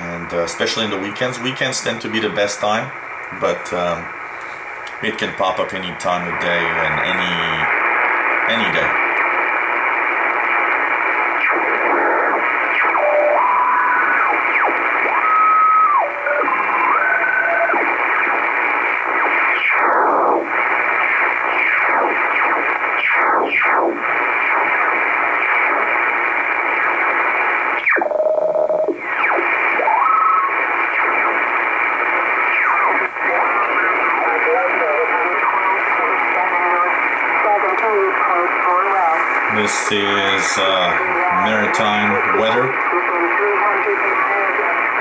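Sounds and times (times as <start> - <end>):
radio static hiss: 0.0 - 45.0
short steady radio tones: 0.0 - 45.0.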